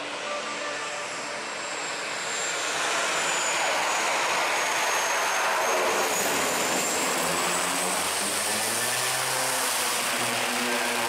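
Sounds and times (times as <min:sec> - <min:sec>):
high turbine whine: 0:00.0 - 0:11.0
turboprop engine and propeller running: 0:00.0 - 0:11.0.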